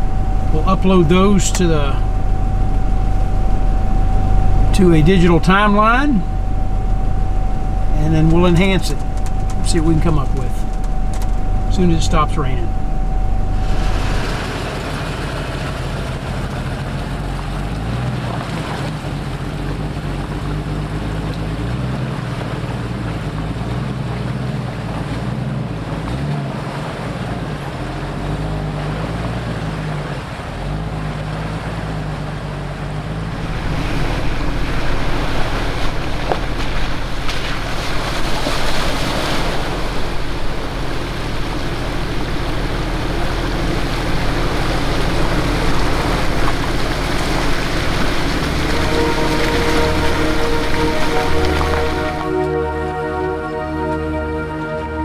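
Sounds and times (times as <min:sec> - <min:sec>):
engines running slowly: 0:00.0 - 0:55.0
water splashing: 0:00.0 - 0:55.0.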